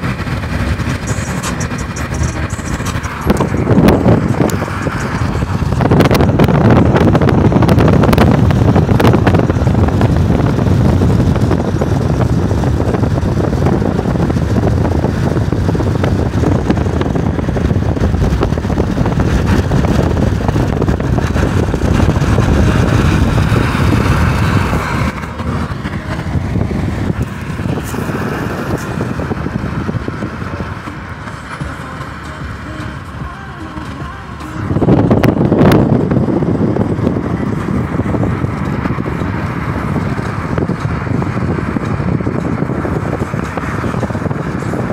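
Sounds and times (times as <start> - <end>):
jet airliner roar: 0.0 - 44.9.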